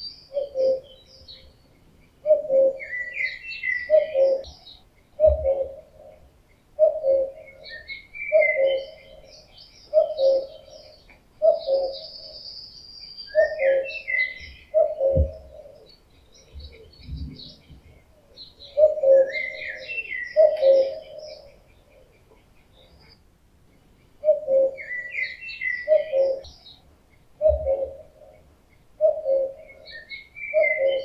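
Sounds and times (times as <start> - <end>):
cuckoo calling: 0.0 - 31.0
songbirds chirping: 0.0 - 31.0.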